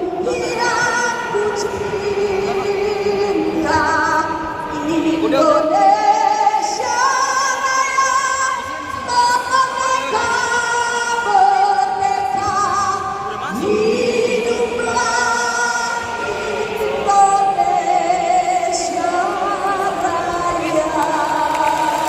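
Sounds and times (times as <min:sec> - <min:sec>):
woman singing with vibrato: 0:00.0 - 0:22.0.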